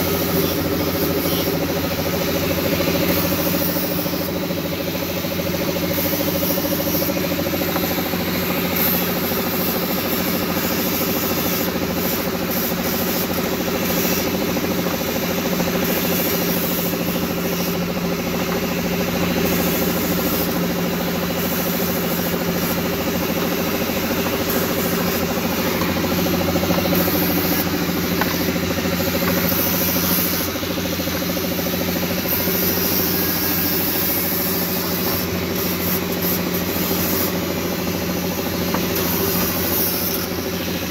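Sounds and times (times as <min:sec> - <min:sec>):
bench grinder motor whine: 0:00.0 - 0:40.9.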